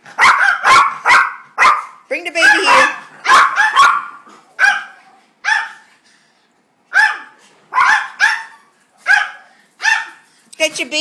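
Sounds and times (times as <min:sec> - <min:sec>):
dog barking: 0:00.1 - 0:05.9, 0:06.9 - 0:10.3.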